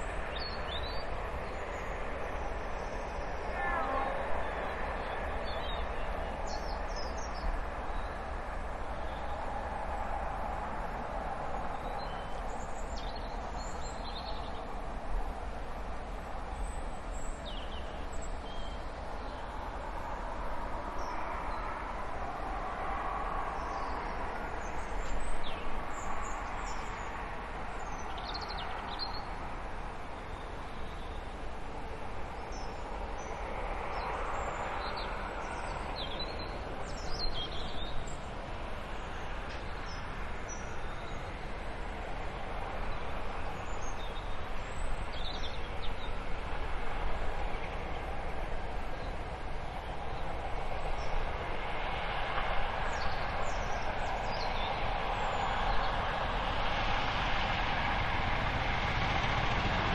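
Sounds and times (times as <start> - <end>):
distant diesel locomotive drone: 0.0 - 59.9.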